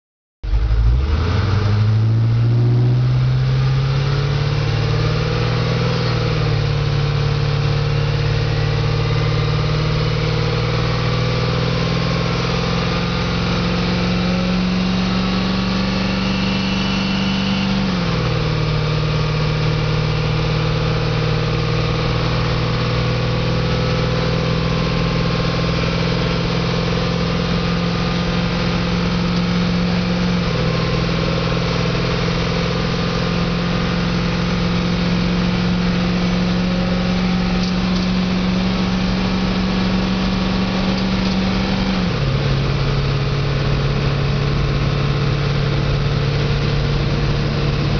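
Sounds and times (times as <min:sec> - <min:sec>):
truck diesel engine accelerating: 0:00.4 - 0:47.9.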